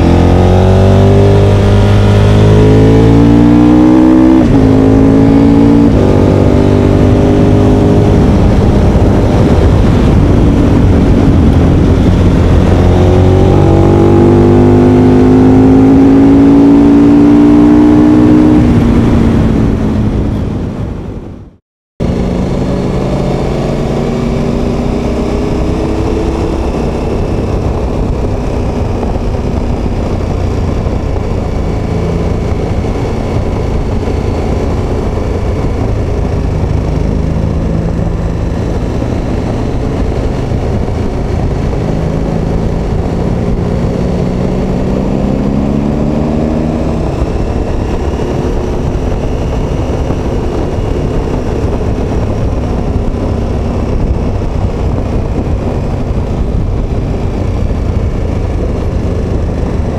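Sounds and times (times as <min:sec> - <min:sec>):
motorcycle engine revving: 0:00.0 - 0:59.9
wind rush: 0:00.0 - 0:59.9.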